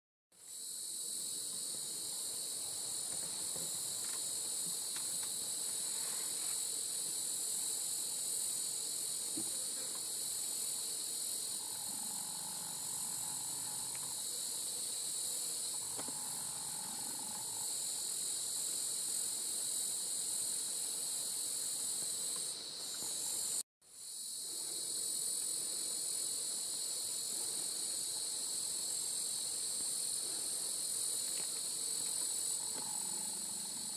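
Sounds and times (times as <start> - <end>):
insect chorus buzzing: 0.4 - 33.9.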